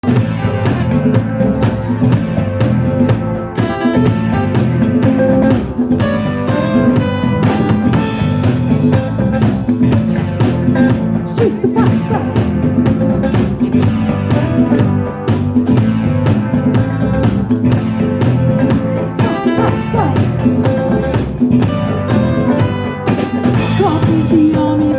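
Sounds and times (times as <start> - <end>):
drum kit beat: 0.0 - 24.9
guitar: 0.0 - 24.9.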